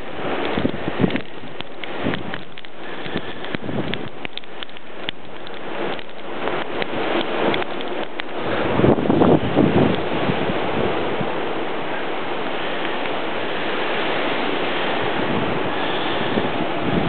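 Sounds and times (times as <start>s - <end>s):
low wind gusts buffeting: 0.0s - 17.0s
wind blowing across microphone: 0.0s - 17.0s.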